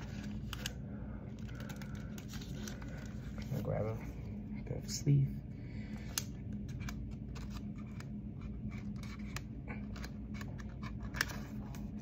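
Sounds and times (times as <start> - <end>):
plastic card sleeve crinkling: 0.0 - 3.9, 6.0 - 12.0.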